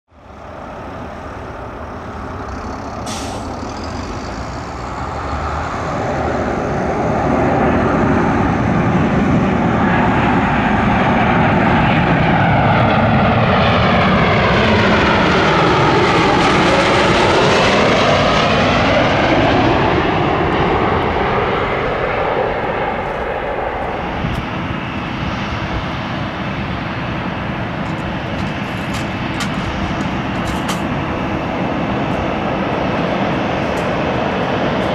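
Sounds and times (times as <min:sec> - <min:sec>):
jet engines passing: 0:00.1 - 0:34.9.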